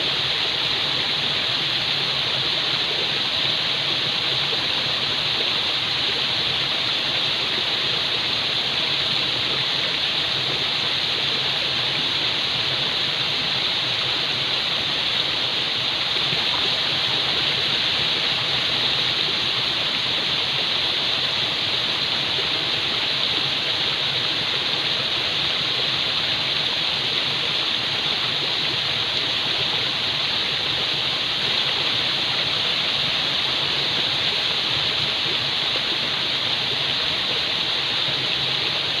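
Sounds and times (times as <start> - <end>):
falling water rushing: 0.0 - 39.0.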